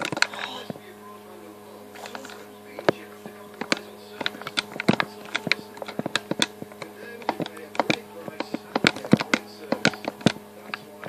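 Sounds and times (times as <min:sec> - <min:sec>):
sharp clicks: 0:00.0 - 0:00.9, 0:01.9 - 0:11.0.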